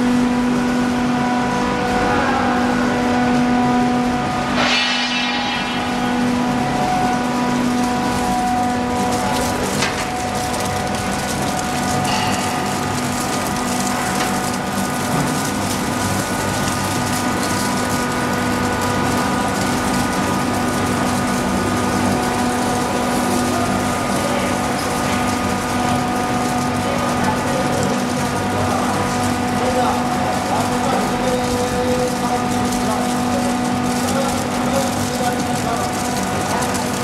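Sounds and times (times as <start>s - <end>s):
ice machine humming: 0.0s - 37.0s.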